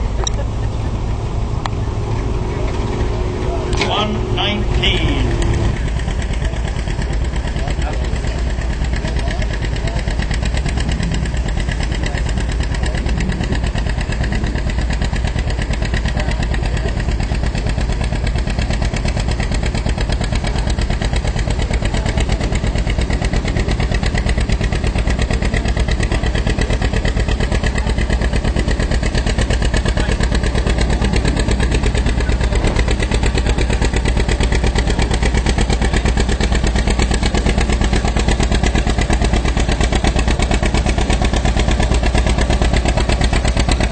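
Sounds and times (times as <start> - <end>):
tractor engine running hard: 0.0 - 43.9.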